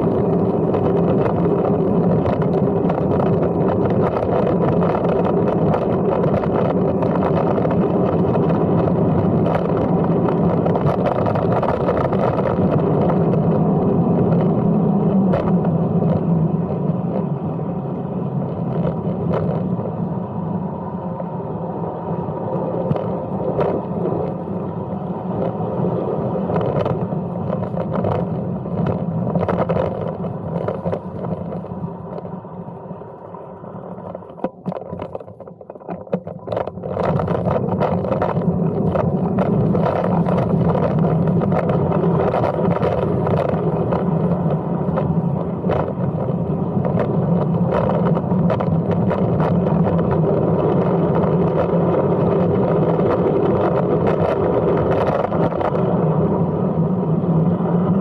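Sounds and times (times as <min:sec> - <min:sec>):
bicycle tyre and drivetrain noise: 0:00.0 - 0:58.0
wind noise: 0:00.0 - 0:58.0.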